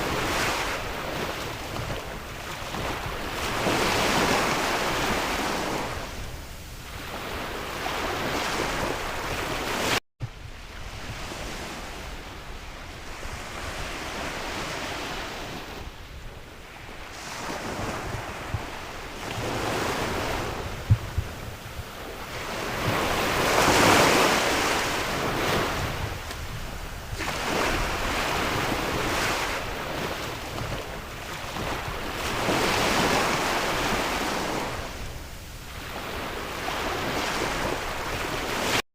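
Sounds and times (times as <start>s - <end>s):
sea waves breaking on shore: 0.0s - 38.8s
wind buffeting microphone: 0.0s - 38.8s.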